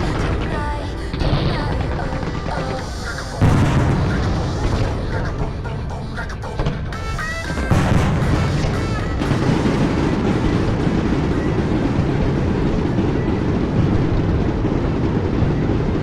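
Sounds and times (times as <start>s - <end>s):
fireworks exploding: 0.0s - 16.0s.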